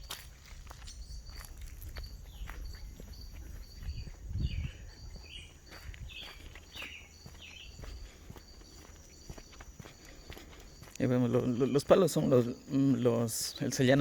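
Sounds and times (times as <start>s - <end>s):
footsteps walking outdoors: 0.0s - 14.0s.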